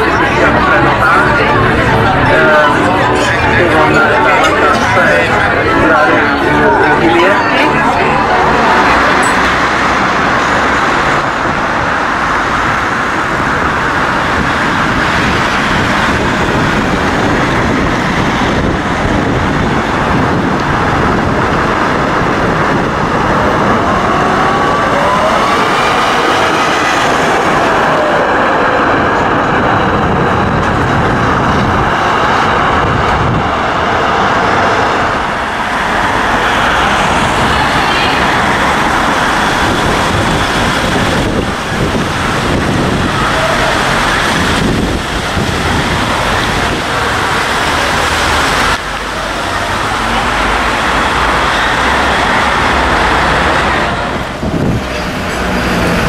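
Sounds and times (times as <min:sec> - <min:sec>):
cars passing: 0:00.0 - 0:56.0
trams running by: 0:00.0 - 0:56.0.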